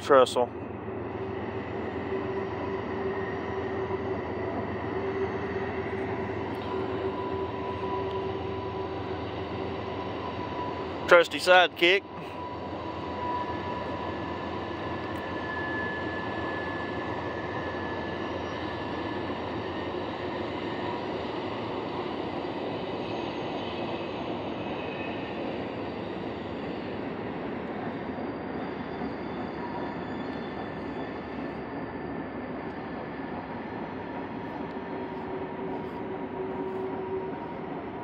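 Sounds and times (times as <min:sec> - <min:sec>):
distant train wheels on rail: 0:00.0 - 0:38.0.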